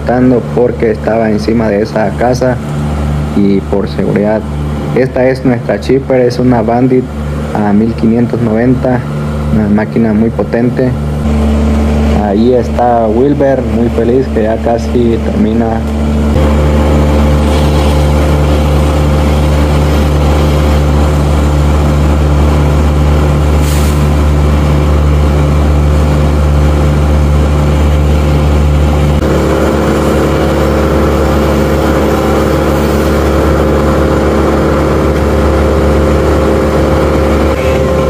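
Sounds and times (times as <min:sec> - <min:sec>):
wood chipper engine droning: 0:00.0 - 0:38.0.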